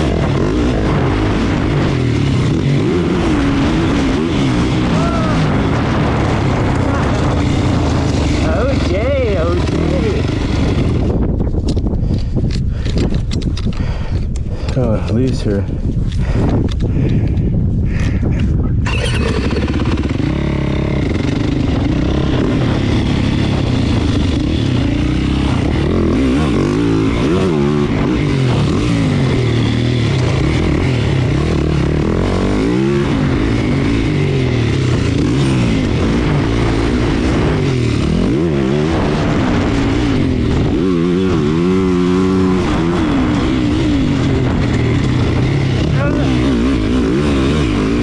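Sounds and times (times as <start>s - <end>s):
motorcycle engine revving: 0.0s - 14.9s, 18.8s - 48.0s.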